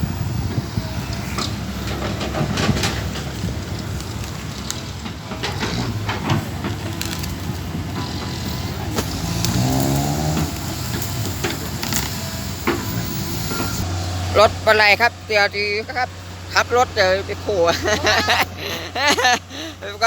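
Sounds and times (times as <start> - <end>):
backhoe diesel engine running: 0.0 - 20.0.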